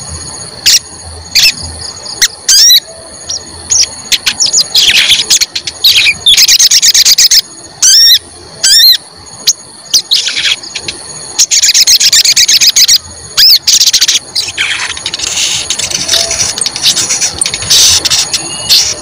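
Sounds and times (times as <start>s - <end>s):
whistled bird notes: 0.6s - 9.0s, 9.8s - 19.0s
bird chirping trills: 0.6s - 19.0s.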